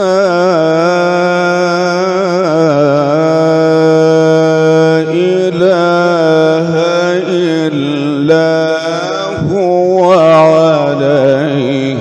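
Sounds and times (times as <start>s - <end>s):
man chanting long melismatic note: 0.0s - 12.0s.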